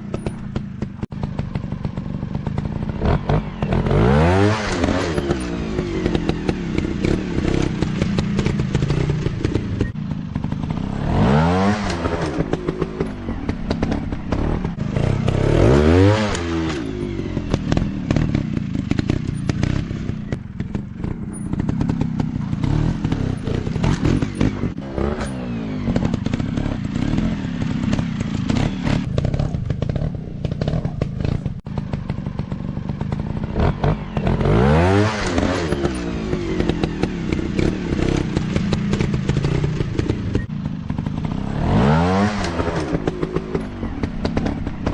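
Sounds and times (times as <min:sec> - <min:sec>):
knocks and clatters: 0:00.0 - 0:04.1, 0:04.7 - 0:34.6, 0:35.2 - 0:44.9
dirt bike engines revving: 0:00.0 - 0:44.9.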